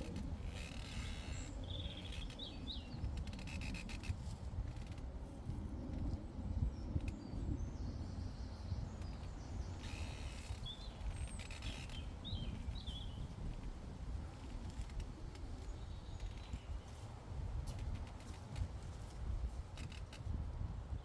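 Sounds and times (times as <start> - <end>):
low wind rumble on microphone: 0.0 - 21.0.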